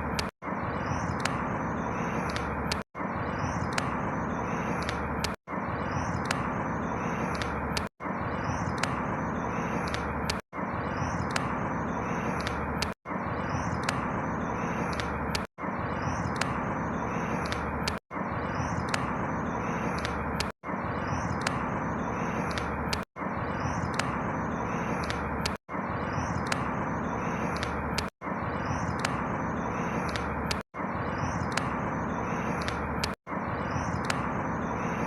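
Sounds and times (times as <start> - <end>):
faint high bird chirps: 0.0 - 35.0.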